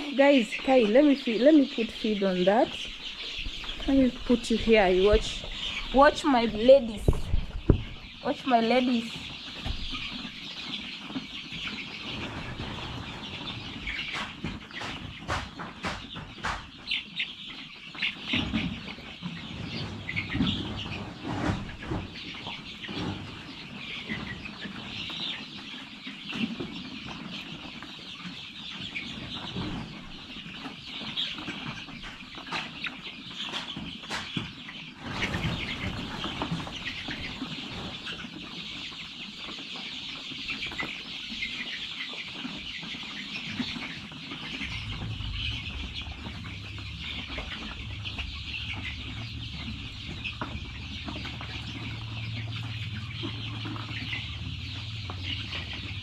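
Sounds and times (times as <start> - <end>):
chickens cheeping and clucking: 0.0 - 56.0.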